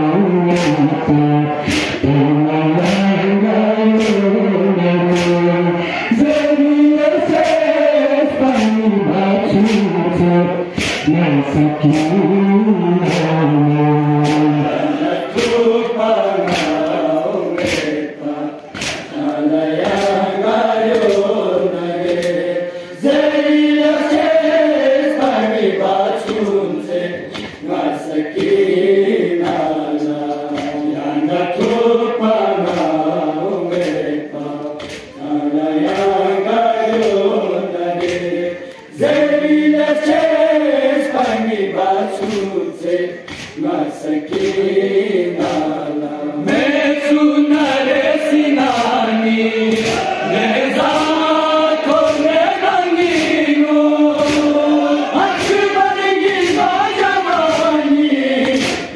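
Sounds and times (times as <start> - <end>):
men chanting a lament in chorus: 0.0 - 58.9
chest-beating slaps: 0.4 - 26.6, 27.2 - 58.9.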